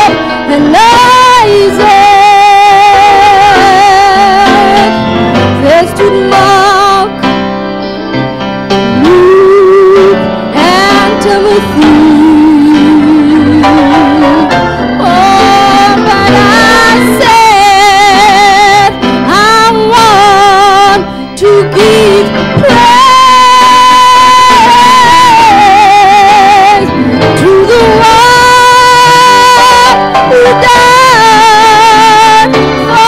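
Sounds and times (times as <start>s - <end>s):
woman singing with vibrato: 0.0s - 5.0s, 5.6s - 7.2s, 8.9s - 33.0s.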